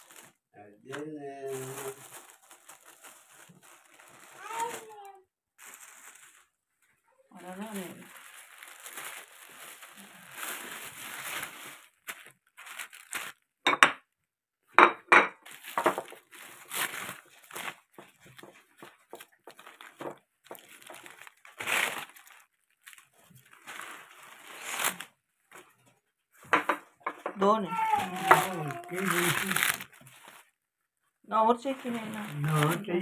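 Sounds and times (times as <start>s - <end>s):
plastic bags crinkling: 0.0s - 0.4s, 1.4s - 6.6s, 7.4s - 13.5s, 14.8s - 25.9s, 26.5s - 30.6s, 31.6s - 33.0s.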